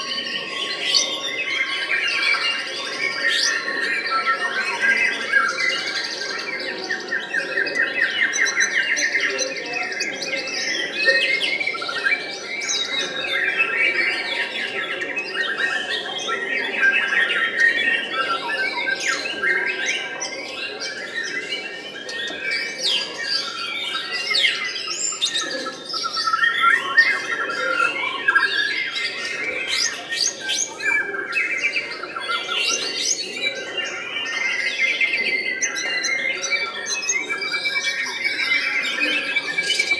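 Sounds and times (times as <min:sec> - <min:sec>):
bird singing trills and whistles: 0:07.2 - 0:39.9.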